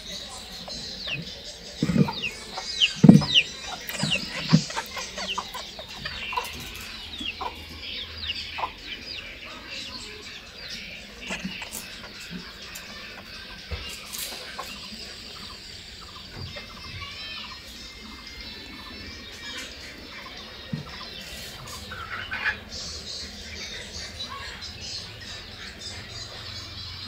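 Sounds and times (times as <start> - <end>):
chickens clucking and chirping: 0.0 - 27.0.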